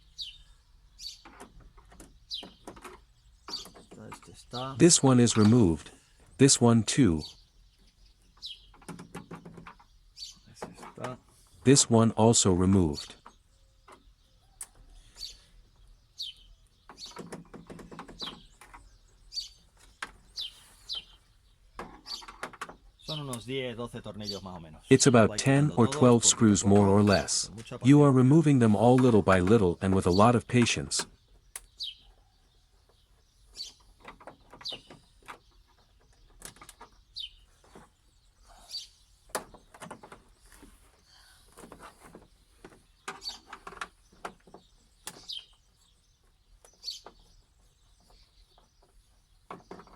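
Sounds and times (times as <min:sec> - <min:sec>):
small bird chirping: 0:00.0 - 0:11.5, 0:12.8 - 0:26.4, 0:31.0 - 0:49.9.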